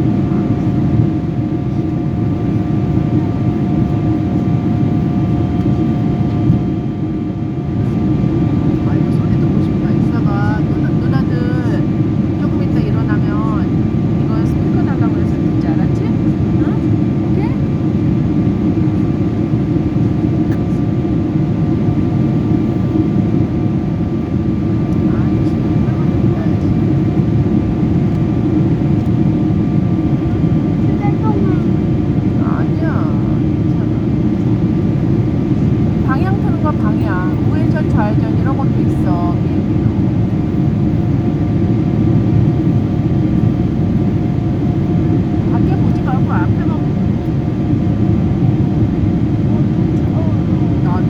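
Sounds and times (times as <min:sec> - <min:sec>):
airliner cabin engine drone: 0:00.0 - 0:51.0.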